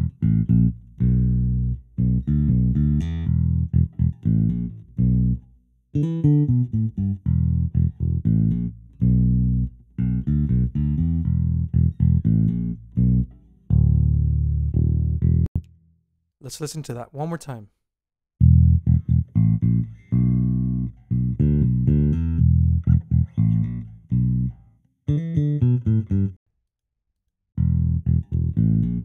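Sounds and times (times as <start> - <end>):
plucked bass guitar line: 0.0 - 15.8, 18.4 - 26.4, 27.6 - 29.0.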